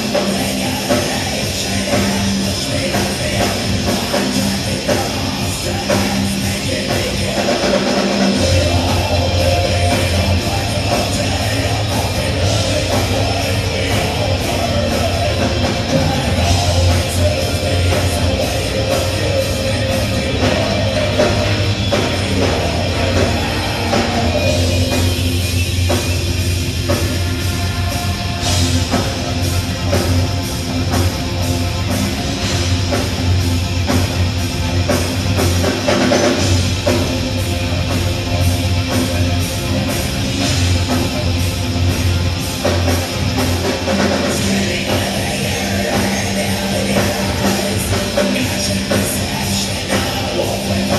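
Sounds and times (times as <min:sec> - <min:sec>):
heavy metal band playing live: 0:00.0 - 0:50.9.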